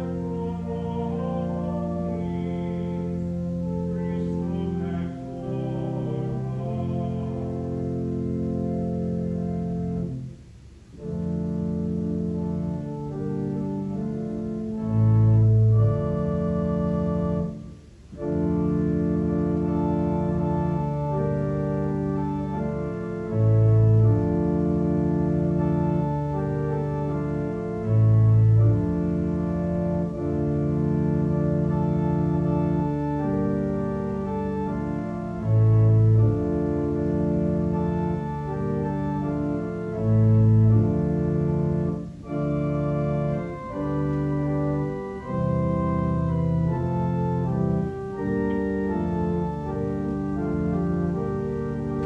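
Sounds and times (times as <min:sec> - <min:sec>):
church organ chords: 0:00.0 - 0:52.0
deep bass organ notes: 0:00.0 - 0:52.0.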